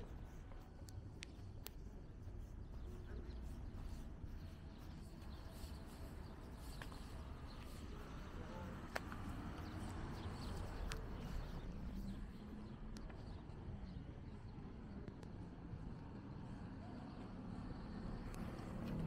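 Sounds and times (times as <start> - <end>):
faint sharp ticks and chirps: 0.0 - 16.4
low city rumble: 0.0 - 19.0.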